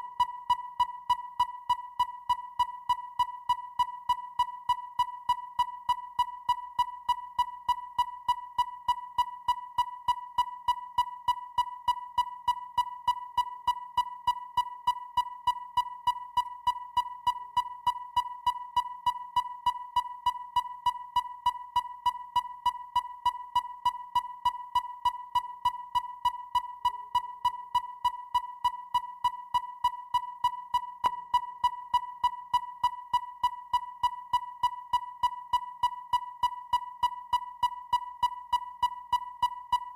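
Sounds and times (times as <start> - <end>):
sonar beep with ticks: 0.0 - 39.9.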